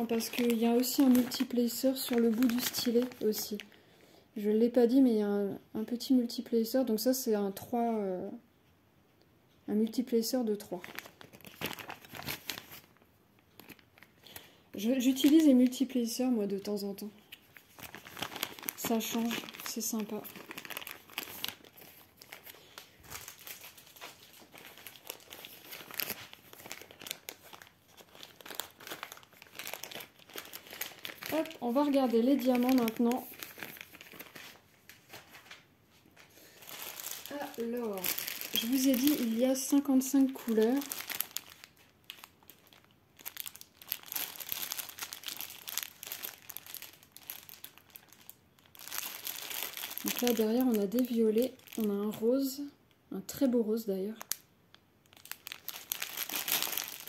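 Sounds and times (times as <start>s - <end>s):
plastic wrapping crinkling: 0.0s - 3.8s, 10.6s - 52.7s, 54.0s - 57.0s.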